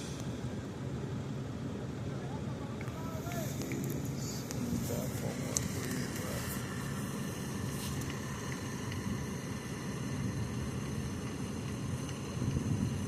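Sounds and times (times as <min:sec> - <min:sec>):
construction machinery engine drone: 0:00.0 - 0:13.0
faint high whining tones: 0:00.0 - 0:13.0.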